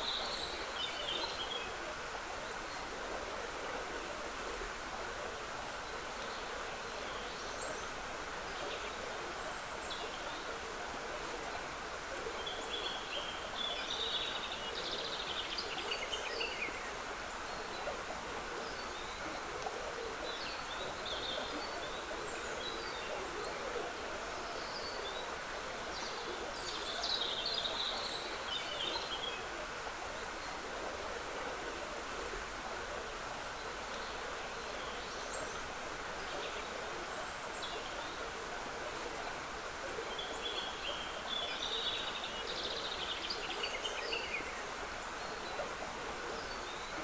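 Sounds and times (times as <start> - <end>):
trickling stream: 0.0 - 47.0.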